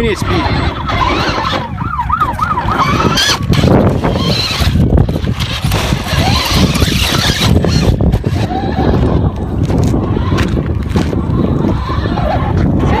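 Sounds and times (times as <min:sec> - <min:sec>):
toy truck motor whining: 0:00.0 - 0:12.6
wind on microphone: 0:00.0 - 0:13.0
truck scrabbling over rock: 0:00.4 - 0:01.8, 0:02.6 - 0:12.5.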